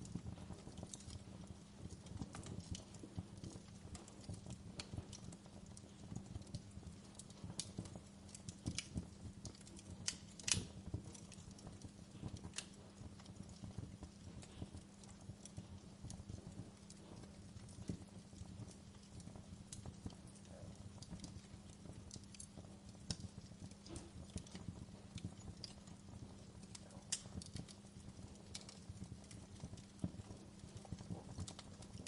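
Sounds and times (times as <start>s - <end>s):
faint steady hum: 0.0s - 32.0s
wood fire crackling: 0.0s - 32.0s.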